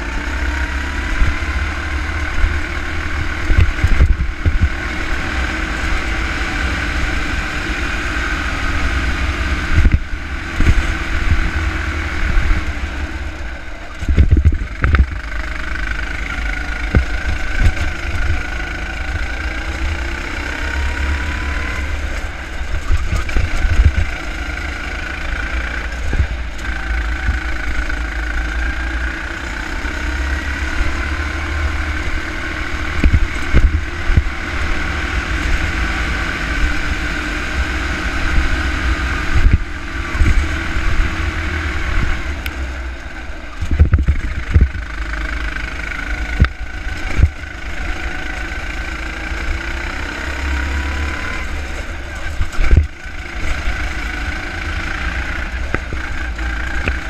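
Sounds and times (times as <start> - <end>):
wind rumble on microphone: 0.0 - 28.9, 29.7 - 48.0, 51.2 - 57.0
go-kart engine under load: 0.0 - 57.0.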